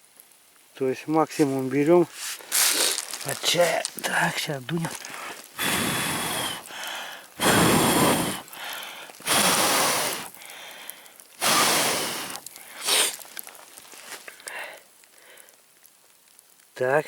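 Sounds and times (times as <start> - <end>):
man blowing onto embers: 1.4 - 16.0.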